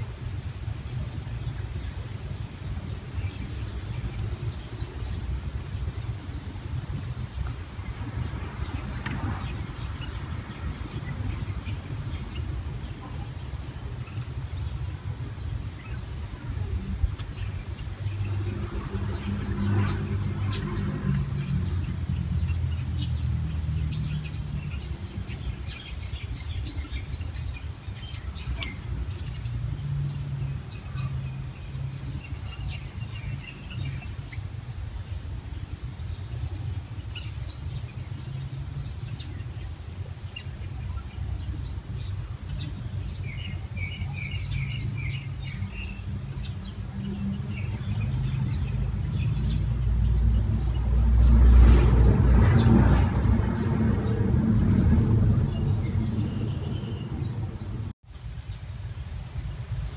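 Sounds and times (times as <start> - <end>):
small birds chirping: 0.0 - 51.8, 53.5 - 58.9
steady low rumble: 0.0 - 58.0.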